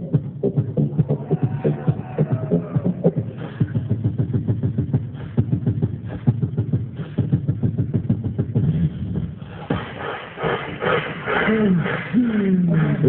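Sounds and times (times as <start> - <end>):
person beatboxing: 0.0 - 13.0.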